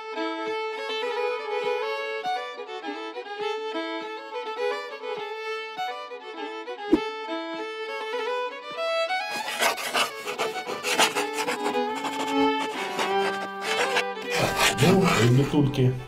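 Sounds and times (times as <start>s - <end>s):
violin melody: 0.0s - 16.0s.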